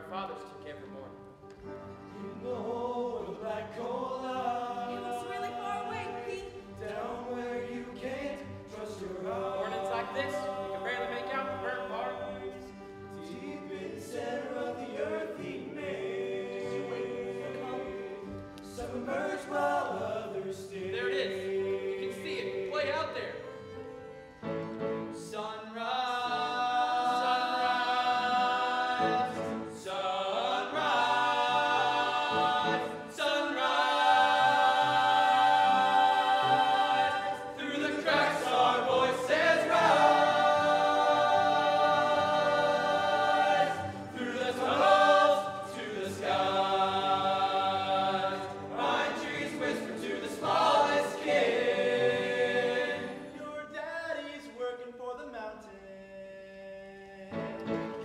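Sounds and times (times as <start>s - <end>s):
group singing in harmony: 2.1s - 22.7s, 24.4s - 53.7s.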